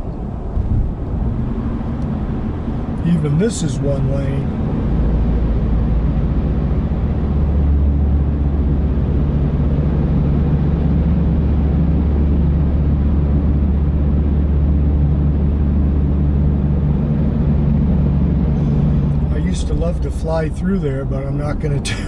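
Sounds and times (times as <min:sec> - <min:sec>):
car road and engine drone: 0:00.0 - 0:22.0.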